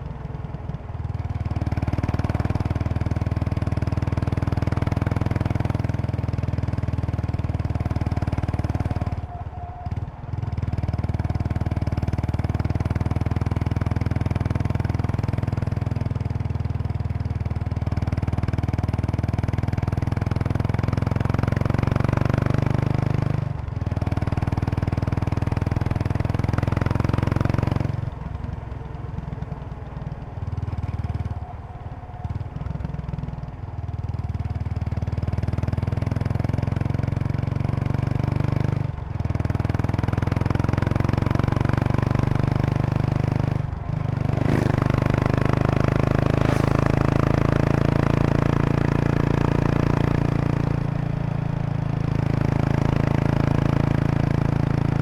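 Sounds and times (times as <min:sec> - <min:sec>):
motorcycle exhaust under throttle: 0:09.9 - 0:55.0.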